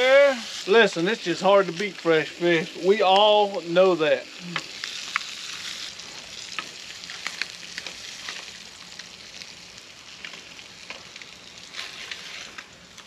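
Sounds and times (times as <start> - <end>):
fish fillets sizzling in oil: 0.0 - 13.0.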